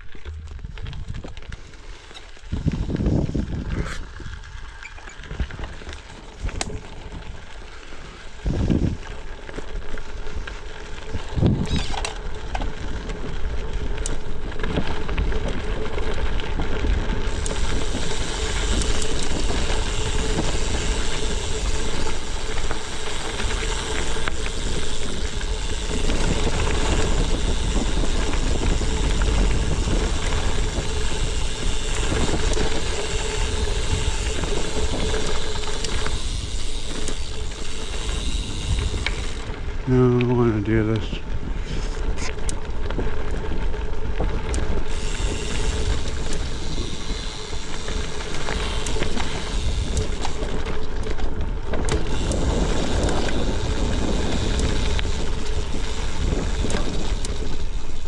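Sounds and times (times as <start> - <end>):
bike tyres crunching on gravel: 0.0 - 58.0
wind rumble on microphone: 0.0 - 58.0.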